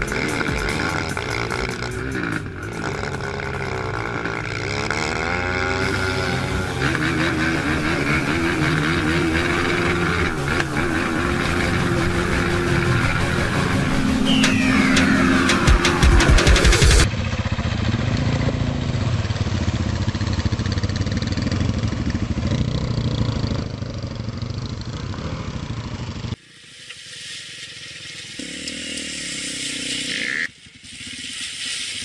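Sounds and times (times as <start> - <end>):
motorcycle engines under load: 0.0 - 14.3, 17.0 - 32.0.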